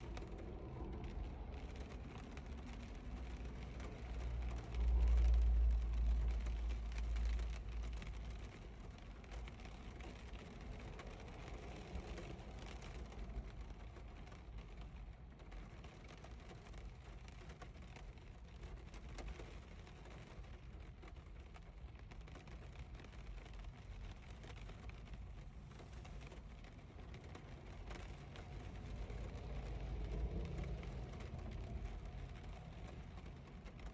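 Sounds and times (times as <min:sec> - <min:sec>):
rain on a car window: 0:00.0 - 0:33.9.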